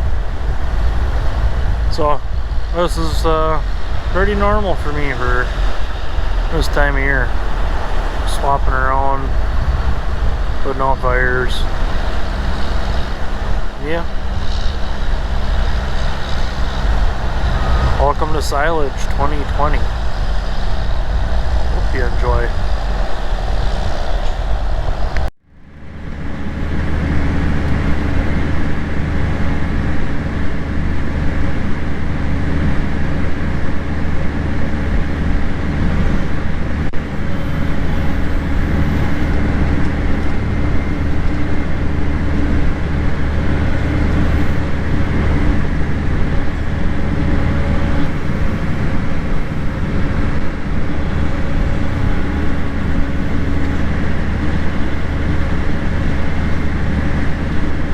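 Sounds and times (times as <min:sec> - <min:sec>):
farm machinery engine droning: 0:00.0 - 0:57.9.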